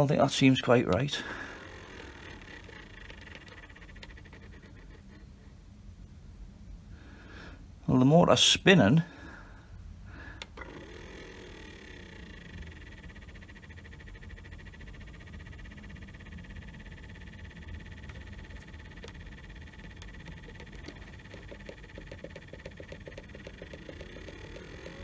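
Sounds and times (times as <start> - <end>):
fan heater motor humming: 0.0 - 25.0.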